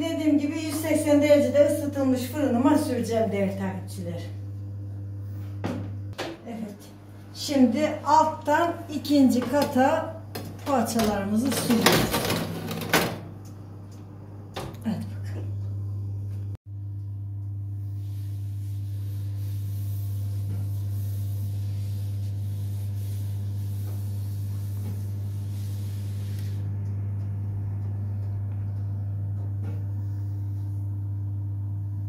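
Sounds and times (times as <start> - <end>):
oven humming: 0.0 - 32.0.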